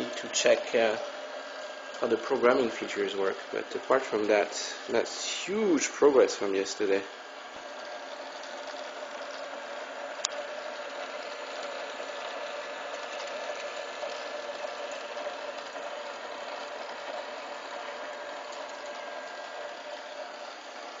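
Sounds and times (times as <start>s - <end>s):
keypunch machine humming: 0.0s - 21.0s.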